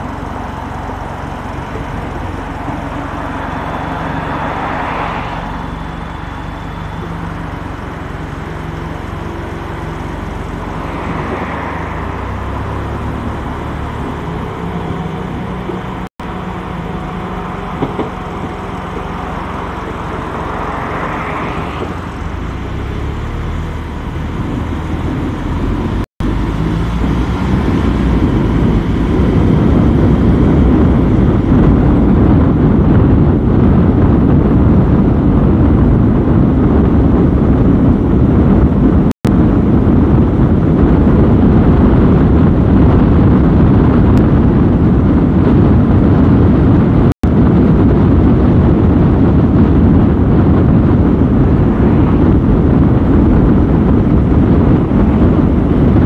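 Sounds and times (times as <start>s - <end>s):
car engine and tyre rumble: 0.0s - 56.0s
vehicles passing: 0.0s - 56.0s.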